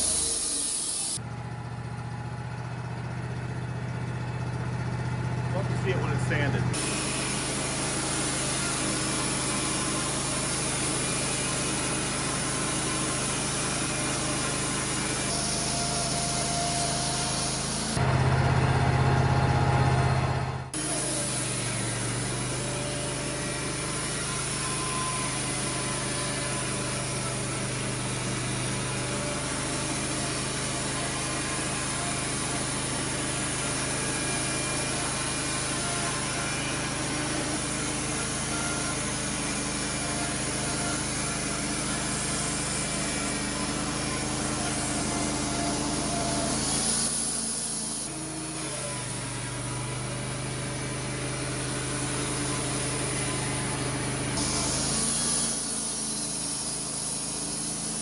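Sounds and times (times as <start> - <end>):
band sawmill cutting log: 0.0 - 1.2, 3.5 - 58.0.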